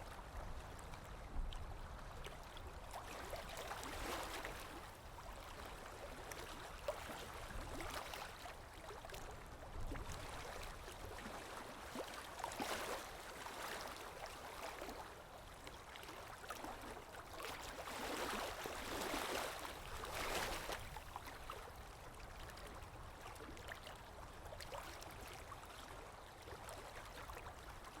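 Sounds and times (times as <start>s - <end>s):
small ocean waves lapping: 0.0s - 28.0s.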